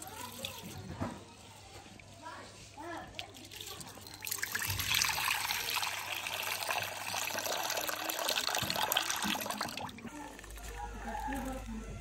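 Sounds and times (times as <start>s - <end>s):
water pouring into metal basin: 0.0s - 1.0s, 2.8s - 11.6s.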